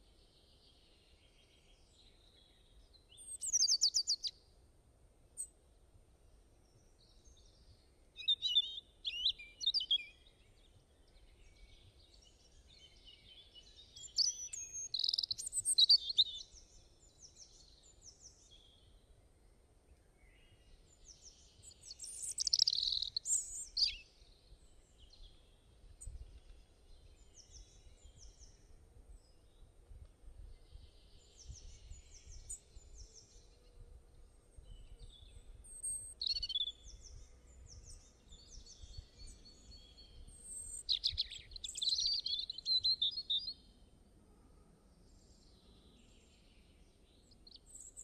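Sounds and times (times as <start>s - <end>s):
small birds chirping and singing: 0.0s - 4.4s, 6.6s - 19.2s, 19.9s - 43.9s, 45.0s - 48.0s.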